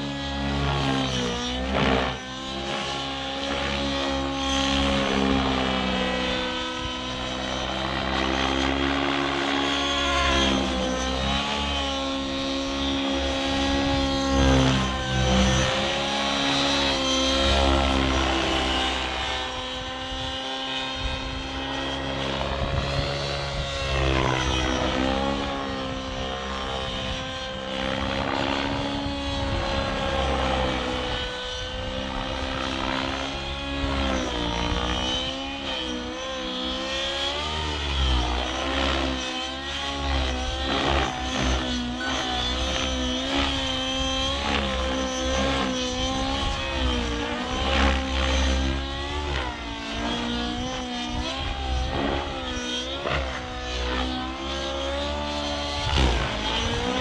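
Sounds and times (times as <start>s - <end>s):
model helicopter engine drone: 0.0s - 57.0s.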